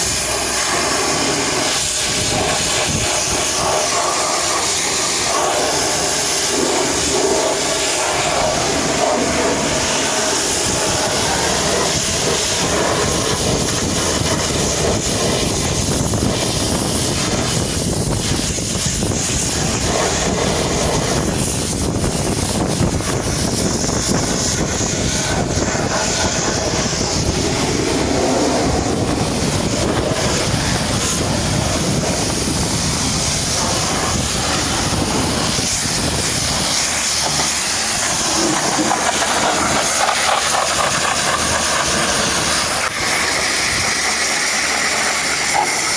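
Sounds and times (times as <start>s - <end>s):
pressure washer spraying water: 0.0s - 45.9s.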